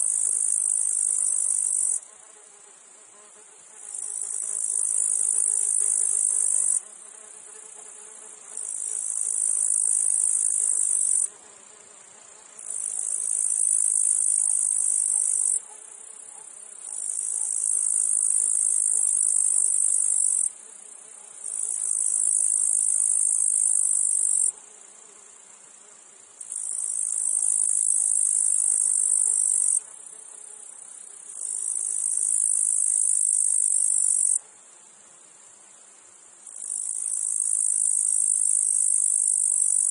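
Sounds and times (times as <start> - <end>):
cicadas buzzing: 0.0 - 2.9, 3.5 - 34.4, 35.4 - 39.9
faint low buzz of flies: 0.0 - 39.9.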